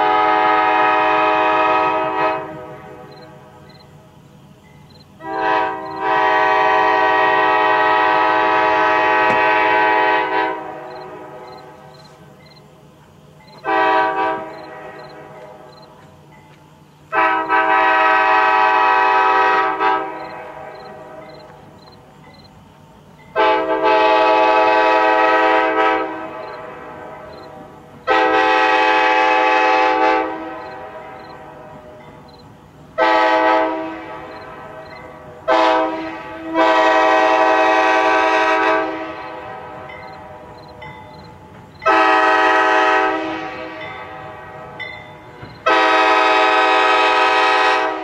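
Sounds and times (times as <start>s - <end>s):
locomotive air horn blasts: 0.0s - 3.7s, 5.2s - 11.9s, 13.5s - 15.7s, 17.1s - 21.4s, 23.3s - 32.0s, 33.0s - 40.6s, 41.8s - 48.0s
low train rumble: 0.0s - 48.0s.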